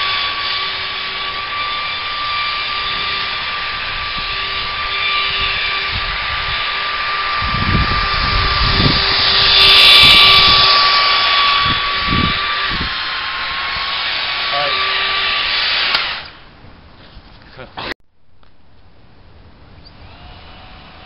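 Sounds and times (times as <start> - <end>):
electric ducted fan whining: 0.0 - 15.6, 19.1 - 21.0.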